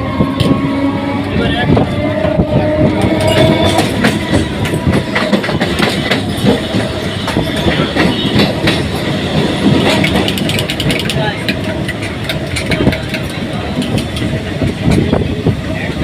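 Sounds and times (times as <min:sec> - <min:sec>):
train rumble: 0:00.0 - 0:16.0
train wheels clattering: 0:01.8 - 0:15.5.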